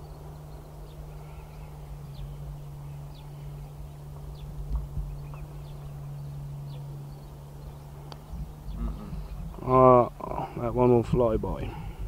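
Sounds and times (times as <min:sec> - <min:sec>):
steady low hum: 0:00.0 - 0:12.0
wind rumbling on microphone: 0:00.0 - 0:12.0.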